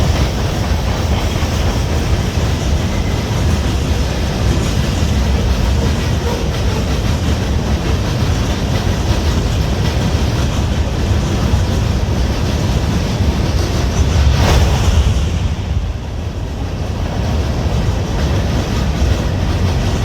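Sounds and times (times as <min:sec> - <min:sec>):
freight train rumbling: 0:00.0 - 0:20.0
wheel and rail clatter: 0:00.0 - 0:20.0.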